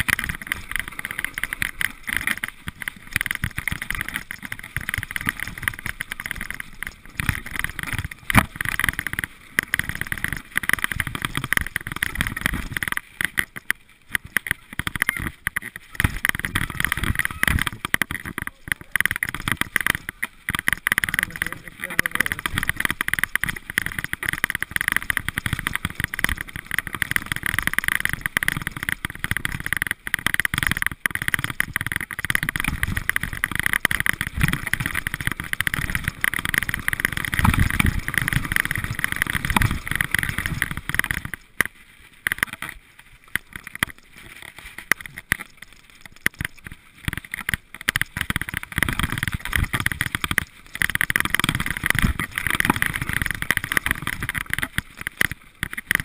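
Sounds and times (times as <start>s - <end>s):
bike rattling over bumps: 0.0s - 56.0s
tyres rolling over dirt: 0.0s - 56.0s.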